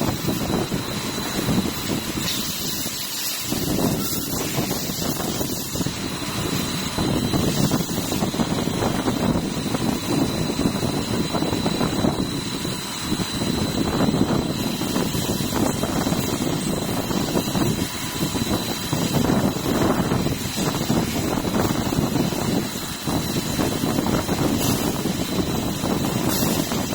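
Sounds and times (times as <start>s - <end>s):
rough machine noise: 0.0s - 26.9s
thin high whine: 0.0s - 26.9s.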